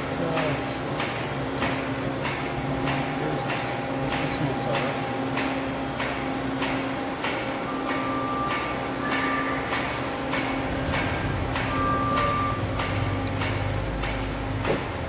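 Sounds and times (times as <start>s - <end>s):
lathe machine hum: 0.0s - 15.0s
regular machine clicks: 0.2s - 15.0s.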